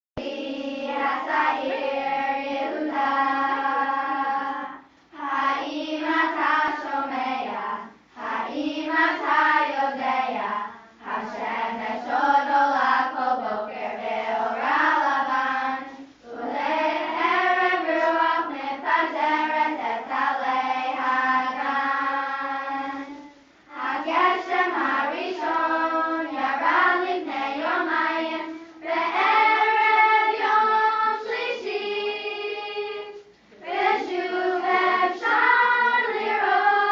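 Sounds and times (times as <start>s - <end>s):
children's choir singing: 0.2s - 36.9s.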